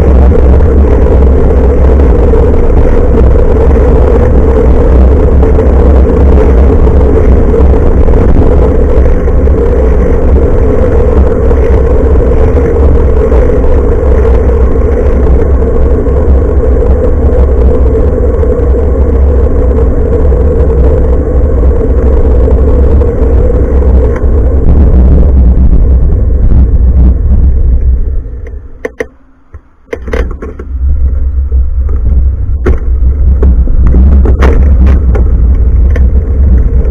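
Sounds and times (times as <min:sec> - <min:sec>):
bicycle riding rumble: 0:00.0 - 0:36.9.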